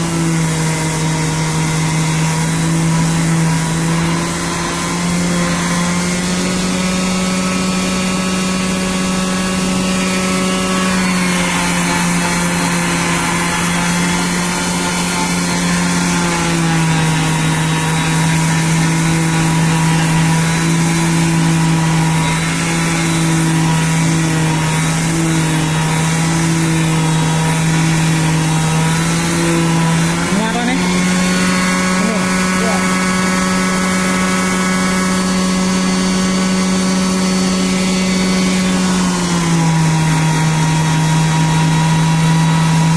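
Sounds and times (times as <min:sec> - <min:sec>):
electric sander on wood: 0:00.0 - 0:42.9.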